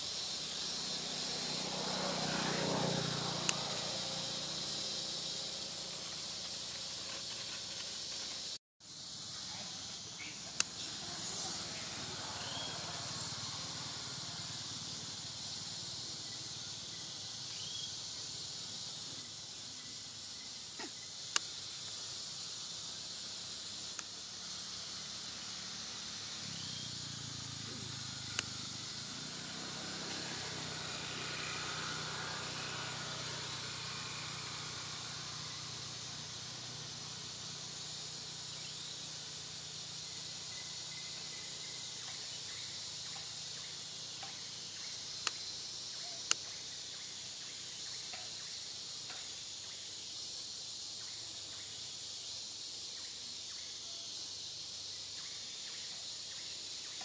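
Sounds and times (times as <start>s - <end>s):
forest ambience hiss: 0.0s - 57.0s.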